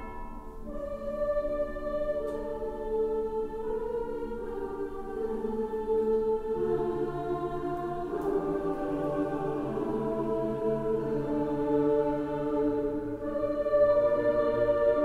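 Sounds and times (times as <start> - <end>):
choral music through speakers: 0.0 - 15.0.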